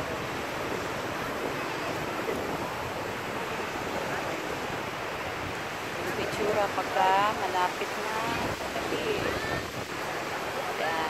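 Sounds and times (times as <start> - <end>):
surf washing onto sand: 0.0 - 11.0
wind rumbling on microphone: 0.0 - 11.0.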